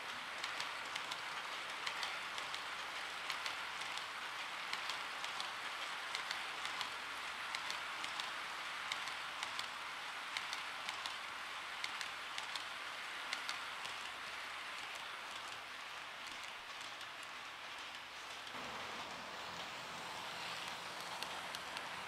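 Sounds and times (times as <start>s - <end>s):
model wagons rolling hiss: 0.0s - 22.0s
wheels clicking on rails: 0.0s - 22.0s.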